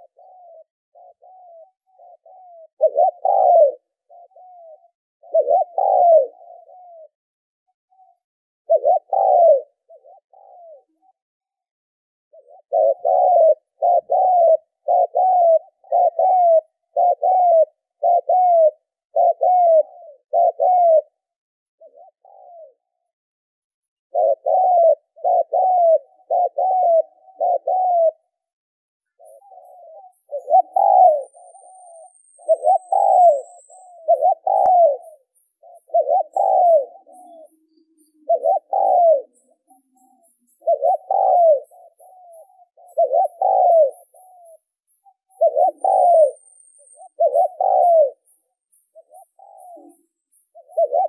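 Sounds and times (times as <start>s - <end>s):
dove cooing: 0.0s - 7.2s, 7.9s - 11.6s, 12.3s - 23.1s, 24.1s - 28.5s, 29.1s - 51.0s.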